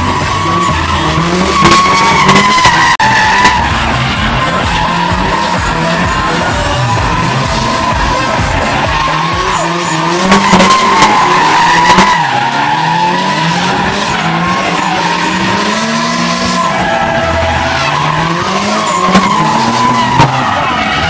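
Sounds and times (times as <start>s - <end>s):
car engines revving: 0.0s - 21.0s
tyres screeching: 0.0s - 21.0s.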